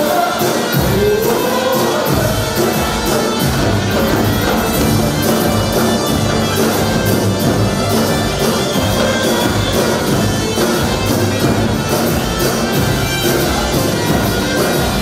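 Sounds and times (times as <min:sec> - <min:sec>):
music with drums: 0:00.0 - 0:15.0.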